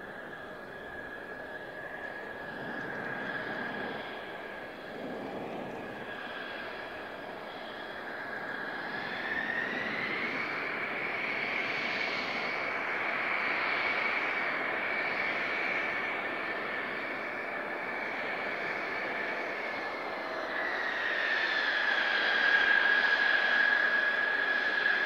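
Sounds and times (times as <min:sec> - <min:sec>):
jet engines high whine: 0:00.0 - 0:25.0.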